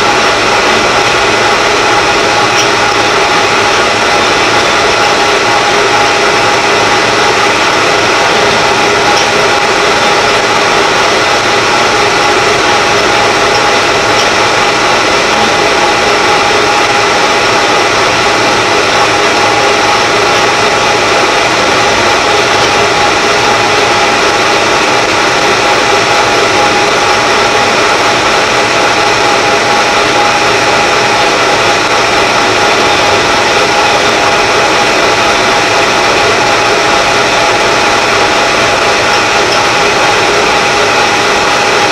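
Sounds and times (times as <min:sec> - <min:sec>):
gear whine: 0:00.0 - 0:41.9
lathe running: 0:00.0 - 0:41.9.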